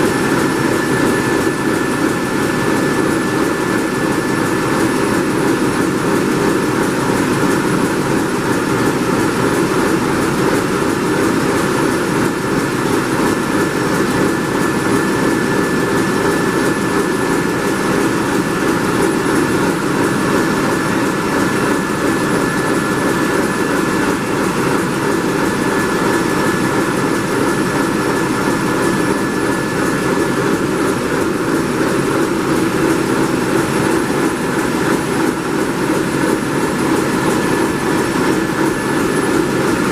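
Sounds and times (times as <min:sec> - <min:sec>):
marine diesel engine running: 0:00.0 - 0:39.9.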